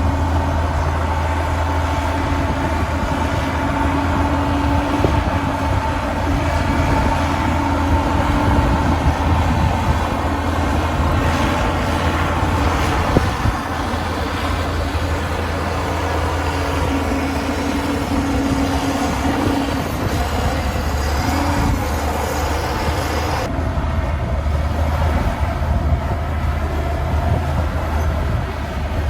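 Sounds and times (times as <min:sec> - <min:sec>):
heavy diesel machinery rumble: 0:00.0 - 0:29.0.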